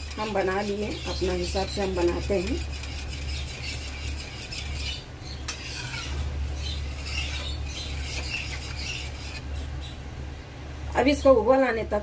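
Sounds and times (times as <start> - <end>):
metal ladle scraping pan: 0.0 - 9.7
steady low hum: 0.0 - 12.0.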